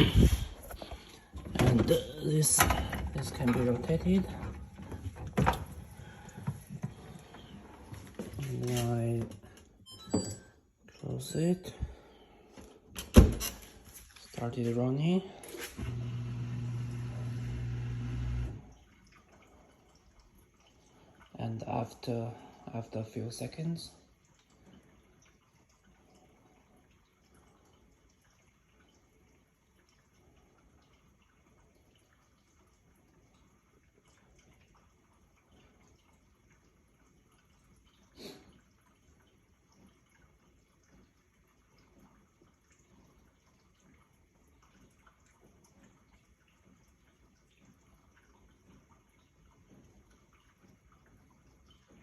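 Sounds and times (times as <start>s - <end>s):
water trickling in dishwasher: 0.0s - 52.0s.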